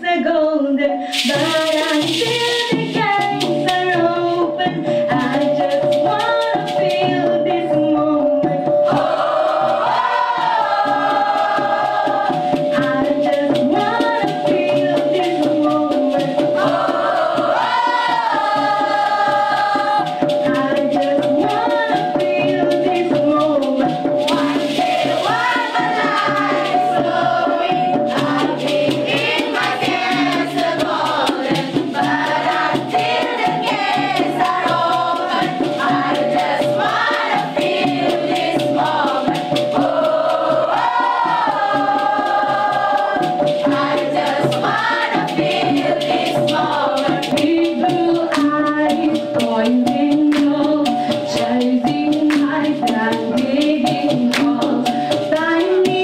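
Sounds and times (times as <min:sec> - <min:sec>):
maracas shaking: 0:01.0 - 0:56.0
group singing in unison: 0:01.1 - 0:56.0.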